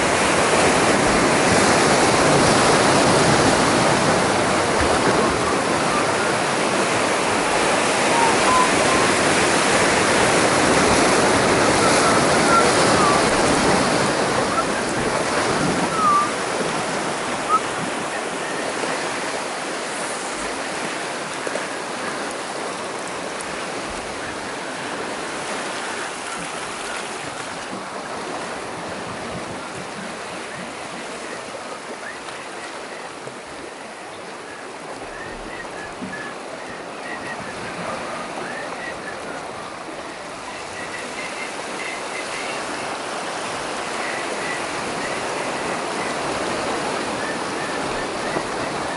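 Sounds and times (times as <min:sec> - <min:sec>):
surf breaking against rocks: 0:00.0 - 0:33.8, 0:34.8 - 0:48.9.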